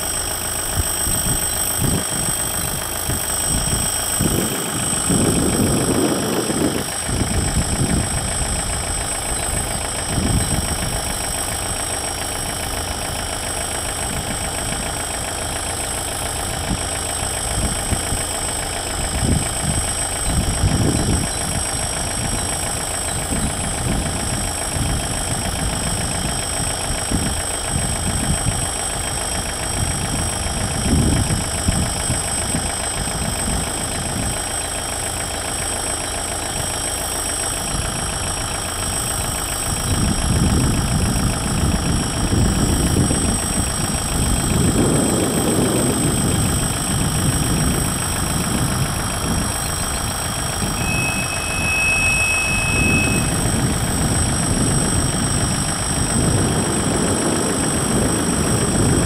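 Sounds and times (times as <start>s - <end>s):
low rumbling swells: 0.0s - 34.5s, 37.6s - 59.0s
diesel locomotive engine running: 0.0s - 59.0s.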